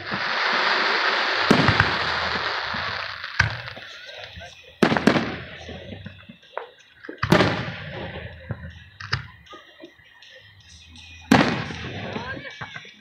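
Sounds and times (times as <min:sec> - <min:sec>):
firework pops and crackles: 0:00.0 - 0:09.4, 0:11.3 - 0:12.9
firework shells bursting: 0:00.0 - 0:10.5, 0:11.1 - 0:13.0.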